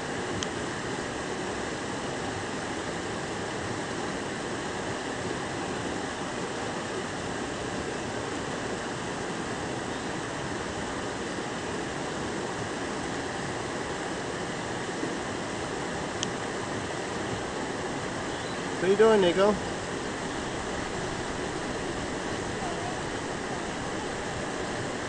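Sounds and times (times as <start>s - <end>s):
brook water rushing: 0.0s - 25.0s.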